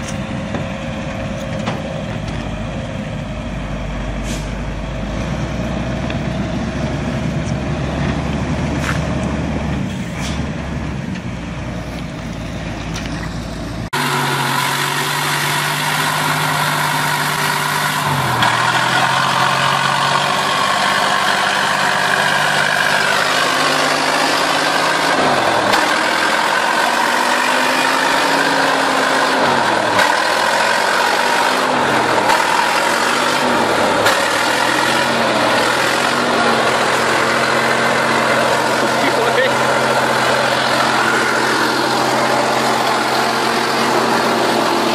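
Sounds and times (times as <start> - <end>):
truck engine pulling uphill: 0.0 - 44.9
truck engine revving: 0.0 - 44.9.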